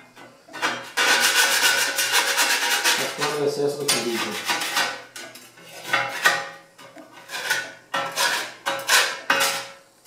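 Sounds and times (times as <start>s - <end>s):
metal spatula scraping metal plate: 0.0s - 9.8s.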